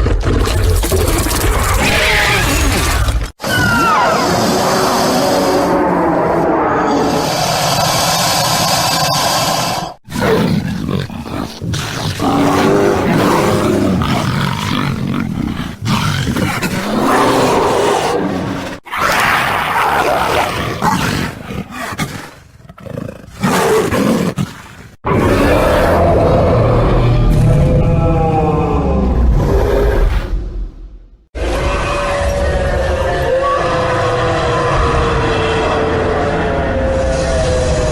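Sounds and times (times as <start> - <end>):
monster roars: 0.0 - 22.2, 25.0 - 30.5, 31.4 - 37.9.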